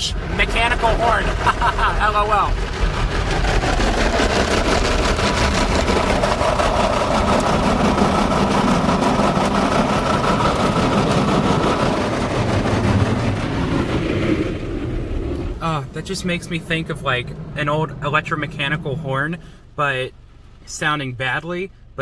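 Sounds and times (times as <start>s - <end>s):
car wash brush blaring drone: 0.0s - 21.0s
car wash rushing noise: 0.0s - 22.0s.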